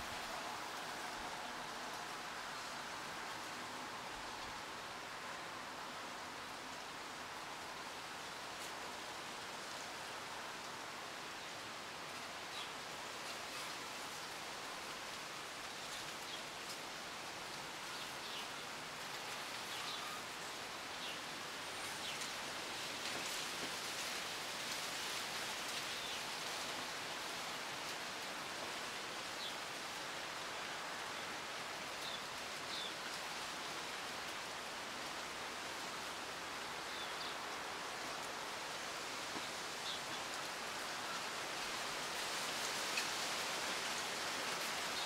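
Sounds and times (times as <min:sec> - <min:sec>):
wind rustling leaves: 0:00.0 - 0:45.0.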